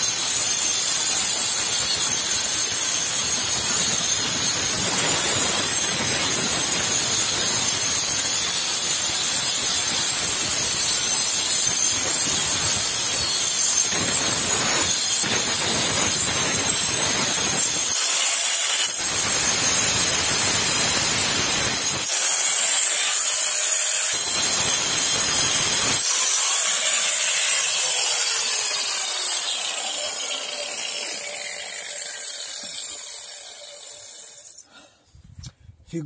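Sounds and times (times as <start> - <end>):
angle grinder cutting sheet metal: 0.0 - 34.7.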